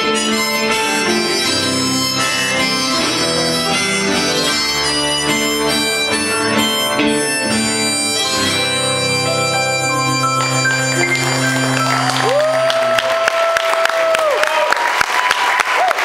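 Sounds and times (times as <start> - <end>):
live rock band: 0.0 - 13.0
harmonica playing: 0.0 - 13.4.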